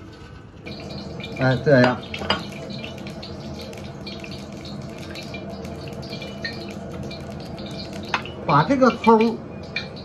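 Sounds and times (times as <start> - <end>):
low kitchen hum: 0.0 - 10.0
water dripping and trickling: 0.6 - 10.0.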